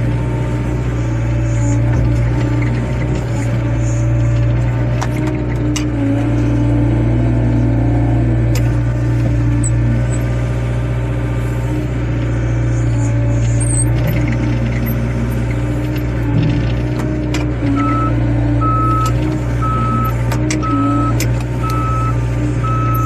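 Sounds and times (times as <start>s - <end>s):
excavator diesel engine: 0.0s - 23.0s
hydraulics wavering whine: 0.0s - 23.0s.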